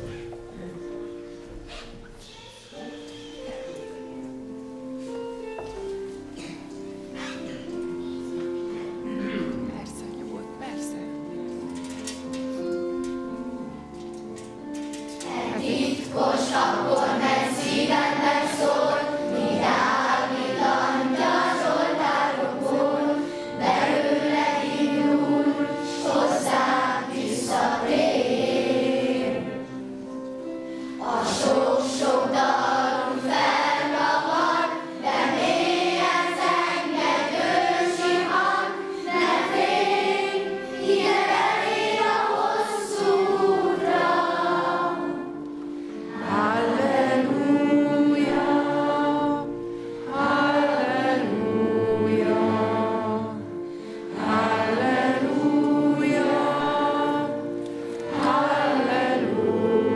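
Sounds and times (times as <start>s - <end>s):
children's choir singing: 0.0s - 9.6s, 13.3s - 59.9s.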